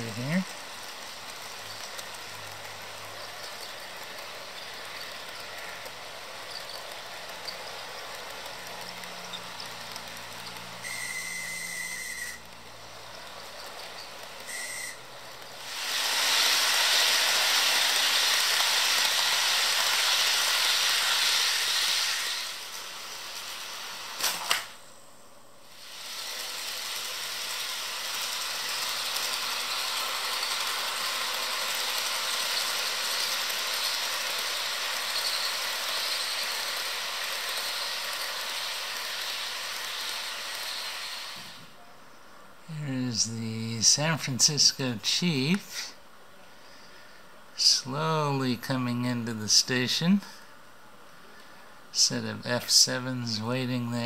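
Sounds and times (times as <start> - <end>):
model train wheels and motor whirring: 0.0 - 46.0, 46.9 - 50.7, 51.3 - 54.0.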